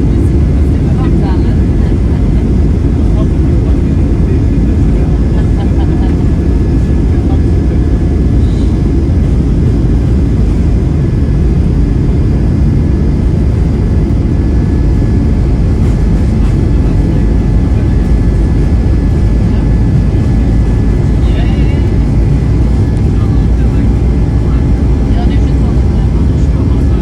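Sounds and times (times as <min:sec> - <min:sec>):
jet engines low rumble: 0:00.0 - 0:27.0.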